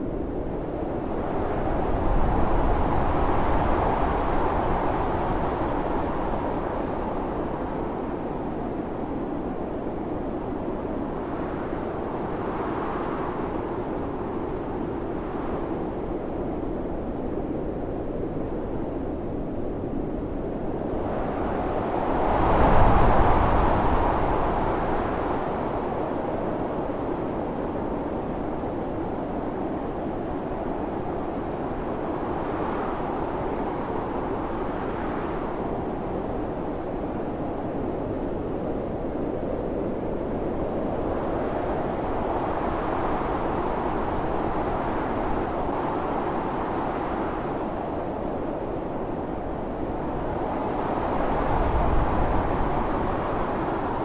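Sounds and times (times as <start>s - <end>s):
blizzard wind rushing: 0.0s - 54.0s.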